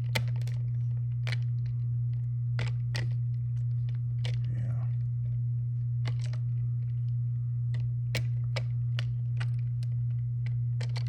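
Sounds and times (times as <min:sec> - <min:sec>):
light clicks and crackles: 0:00.0 - 0:11.0
steady low hum: 0:00.0 - 0:11.0.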